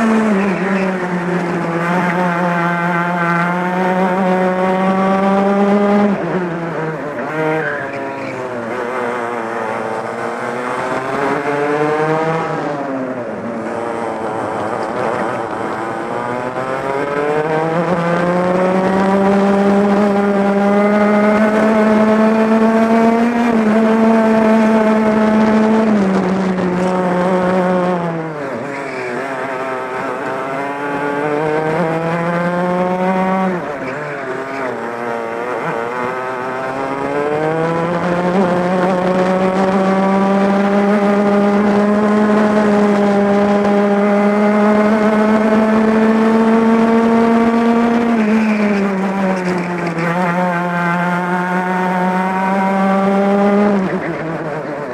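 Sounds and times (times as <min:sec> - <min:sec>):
kart engine at race pace: 0:00.0 - 0:54.9.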